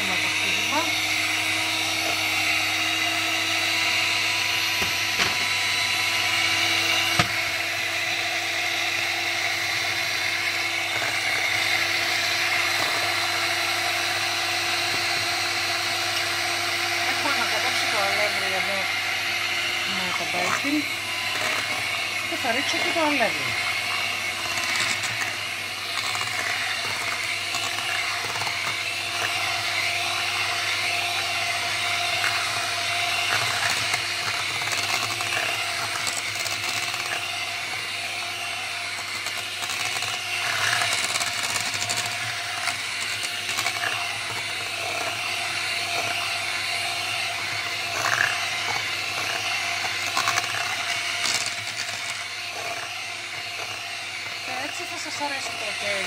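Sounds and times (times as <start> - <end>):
electric hand mixer running: 0.0 - 56.0.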